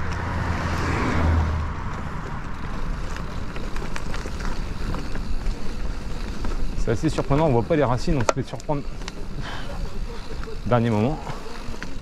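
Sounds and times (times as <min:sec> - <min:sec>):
bike tyre rolling noise: 0:00.0 - 0:12.0
bike knocks and rattles: 0:01.9 - 0:12.0.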